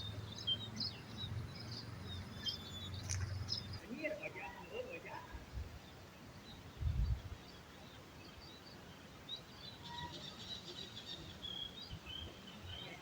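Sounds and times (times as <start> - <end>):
low outdoor background: 0.0 - 13.0
small birds chirping: 0.0 - 13.0.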